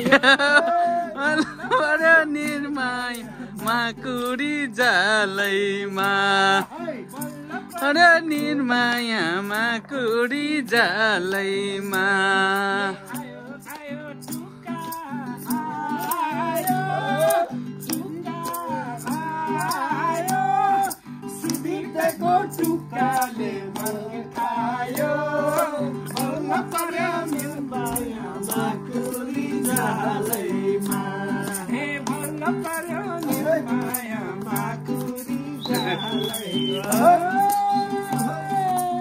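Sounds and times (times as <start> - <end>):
folk singing: 0.0 - 39.0
steady percussion beat: 5.4 - 10.3, 11.3 - 39.0.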